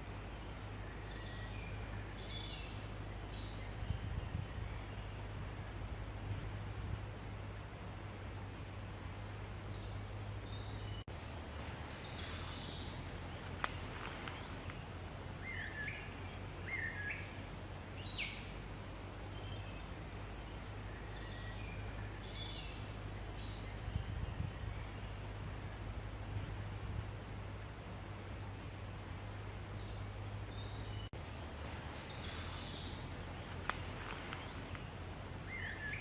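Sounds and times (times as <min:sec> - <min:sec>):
songbirds chirping: 0:00.0 - 0:36.0
steady low hum: 0:00.0 - 0:36.0.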